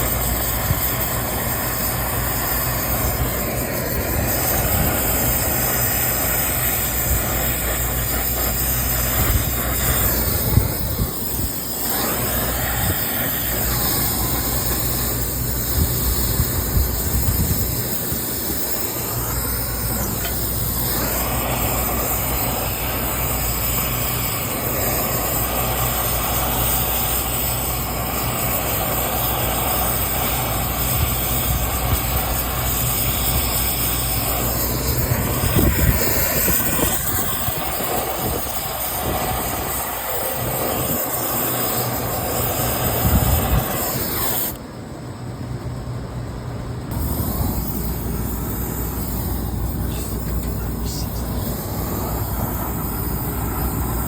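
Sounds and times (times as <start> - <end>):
hiss: 0.0 - 44.6, 46.9 - 54.0
machine running with hum: 0.0 - 54.0.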